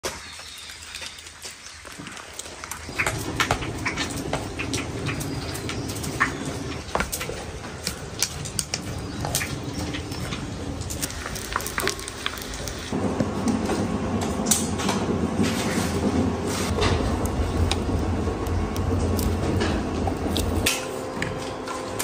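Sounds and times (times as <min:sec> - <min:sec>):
wood fire rumbling and crackling: 0:00.0 - 0:22.0.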